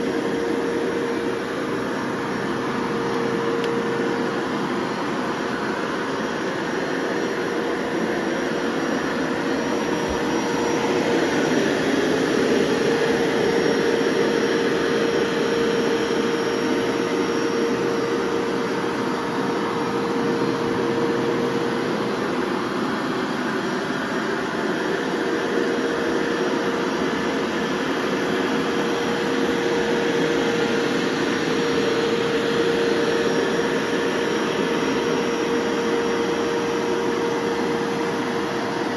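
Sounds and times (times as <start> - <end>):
carpet washer motor hum: 0.0 - 38.9.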